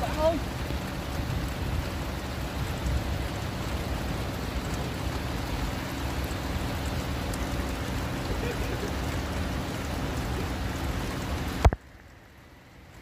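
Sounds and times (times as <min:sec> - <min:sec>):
heavy rain on a river: 0:00.0 - 0:13.0.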